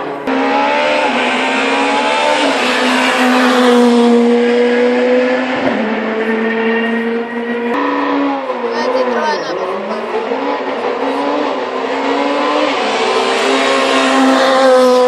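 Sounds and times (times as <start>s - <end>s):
rally car accelerating: 0.0s - 15.0s.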